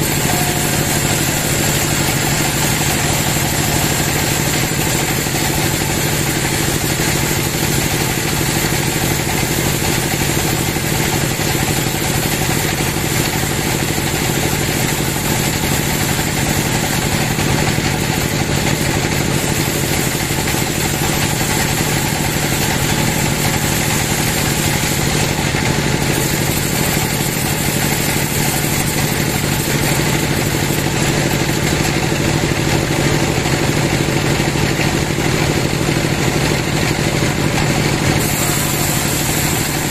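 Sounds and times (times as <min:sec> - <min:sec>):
band saw cutting log: 0:00.0 - 0:35.1, 0:37.5 - 0:39.9.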